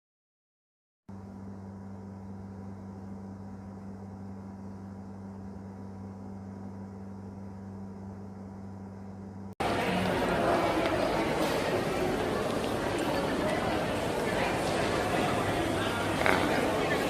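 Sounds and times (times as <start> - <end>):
low machine hum: 1.1 - 17.0.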